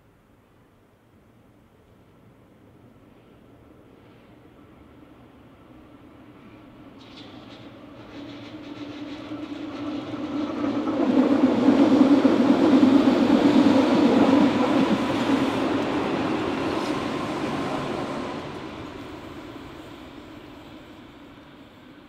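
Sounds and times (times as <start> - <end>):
trains passing on rails: 0.1 - 22.0.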